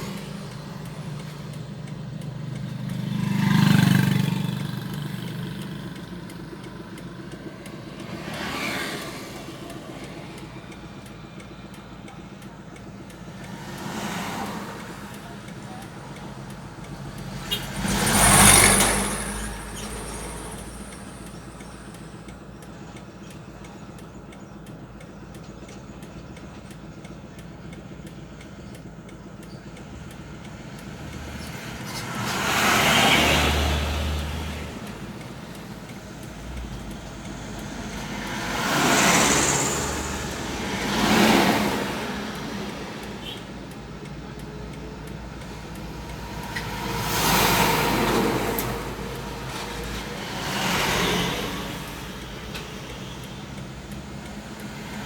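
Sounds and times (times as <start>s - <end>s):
low engine hum: 0.0s - 55.0s
vehicles passing close by: 0.0s - 55.0s.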